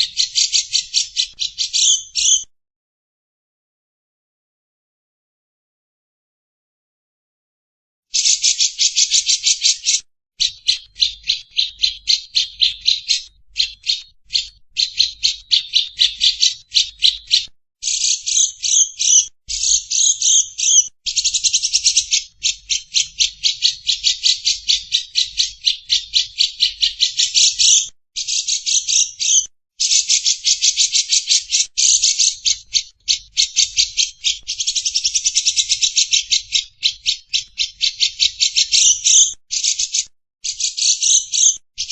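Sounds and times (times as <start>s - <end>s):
lovebird shrill chattering: 0.0s - 2.4s, 8.1s - 17.2s, 17.8s - 37.2s, 37.8s - 41.9s.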